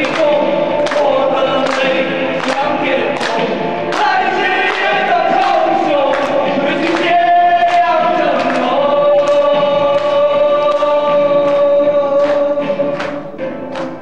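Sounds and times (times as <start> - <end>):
choir holding long notes: 0.0 - 14.0.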